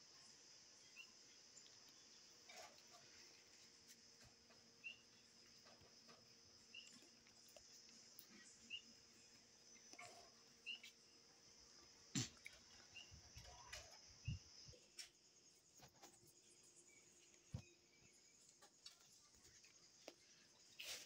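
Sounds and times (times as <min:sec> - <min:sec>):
short insect chirps: 0:00.0 - 0:21.0.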